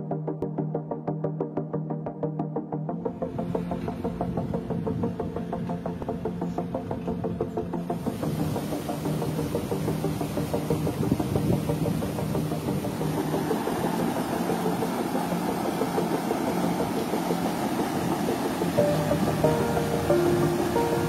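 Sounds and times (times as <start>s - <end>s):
low held music notes: 2.6s - 21.0s
rough dense music layer: 2.6s - 21.0s.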